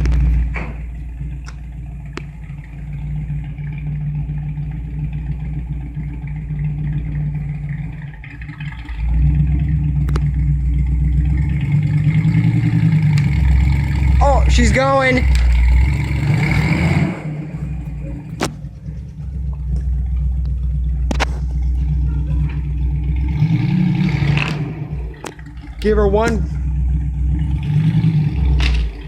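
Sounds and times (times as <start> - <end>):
engine rumbling and revving: 0.0 - 29.0.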